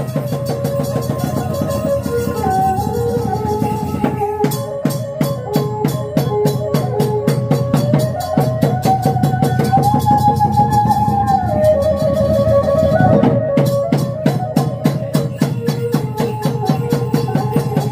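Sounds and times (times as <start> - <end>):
drums and cymbals beat: 0.0 - 17.9
wavering melody line: 0.0 - 17.9.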